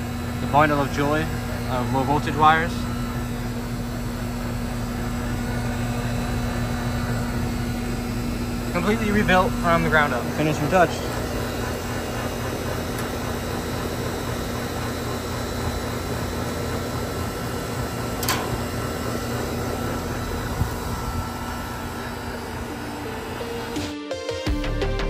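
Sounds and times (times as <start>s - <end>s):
condenser fan whoosh: 0.0s - 24.0s
compressor hum: 0.0s - 25.0s.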